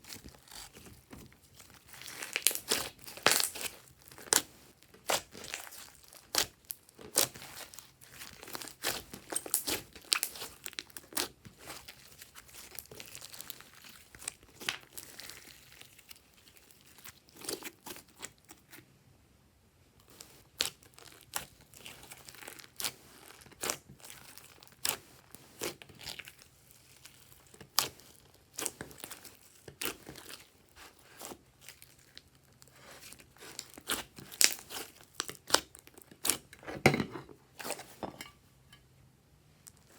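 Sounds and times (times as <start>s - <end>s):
hands squishing sticky slime: 0.0s - 18.8s, 20.0s - 36.6s.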